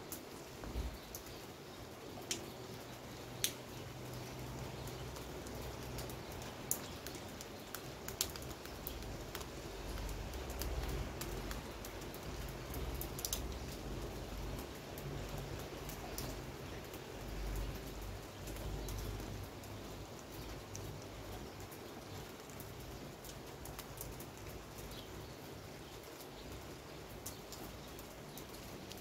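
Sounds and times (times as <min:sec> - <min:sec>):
rain hissing: 0:00.0 - 0:29.0
sharp drip clicks: 0:01.0 - 0:01.4, 0:02.2 - 0:25.1, 0:25.8 - 0:29.0.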